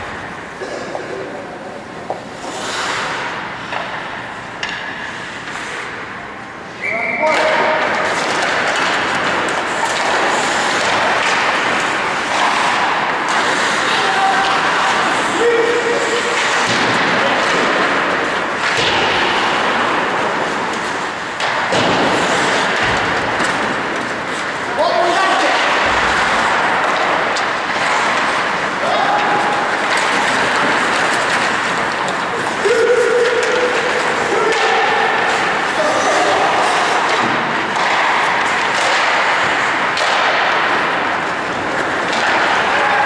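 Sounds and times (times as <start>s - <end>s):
hockey sticks and puck knocking: 0.0s - 6.2s, 7.2s - 43.0s
skates scraping ice: 0.0s - 43.0s.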